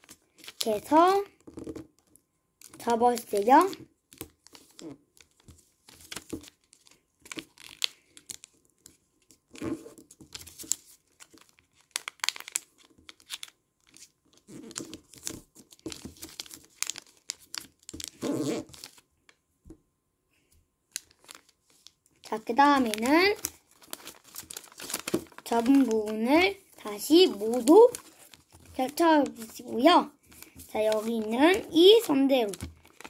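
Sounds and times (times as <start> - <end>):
paper rustling and crinkling: 0.0 - 1.8, 2.6 - 19.1, 20.9 - 33.0.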